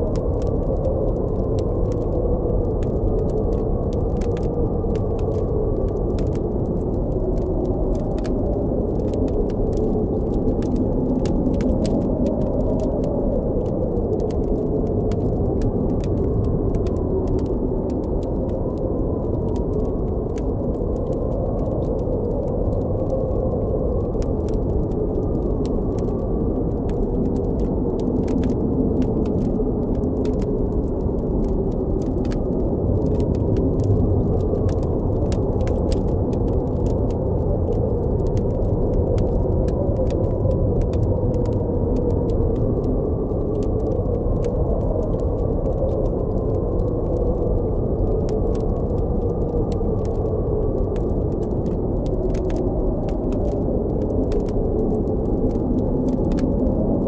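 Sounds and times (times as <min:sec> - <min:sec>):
blizzard wind howling: 0:00.0 - 0:57.0
campfire crackling: 0:00.0 - 0:57.0.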